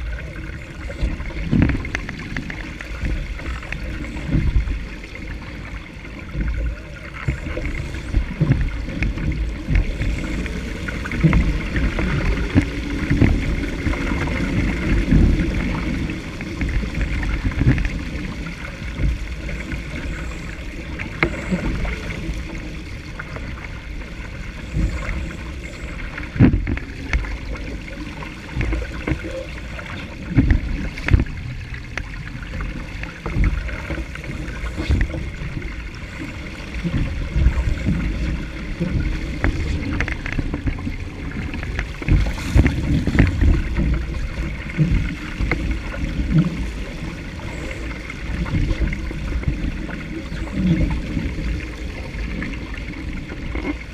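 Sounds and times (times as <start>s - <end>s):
water splashing along boat hull: 0.0s - 53.9s
wind buffeting microphone: 0.0s - 53.9s.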